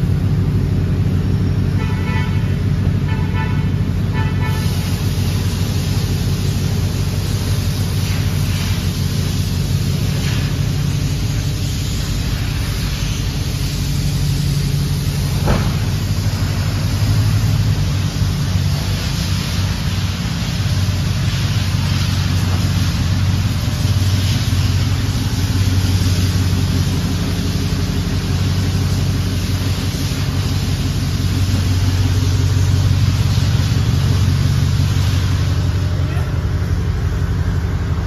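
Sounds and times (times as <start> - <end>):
engine idling exhaust note: 0.0 - 38.0.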